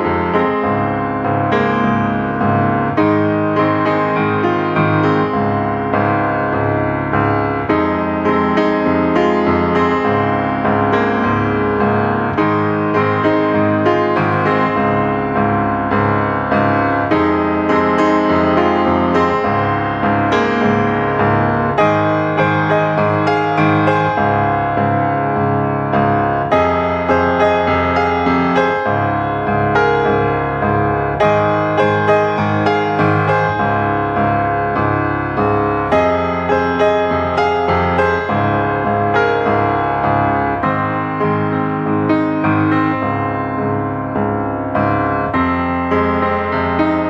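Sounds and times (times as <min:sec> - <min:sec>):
piano chords: 0:00.0 - 0:47.0.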